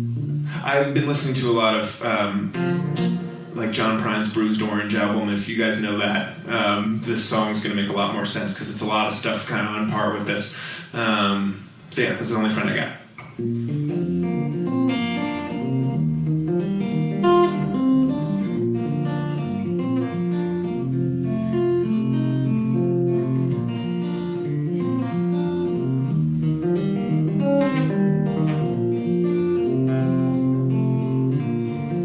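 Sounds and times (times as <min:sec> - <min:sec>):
acoustic guitar playing: 0:00.0 - 0:32.0.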